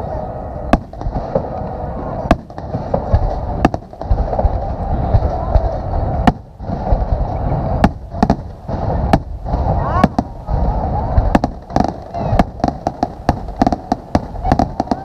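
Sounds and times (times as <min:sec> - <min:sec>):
rumble and crackle of fireworks: 0:00.0 - 0:15.0
firework shells bursting: 0:00.7 - 0:10.5, 0:11.2 - 0:15.0.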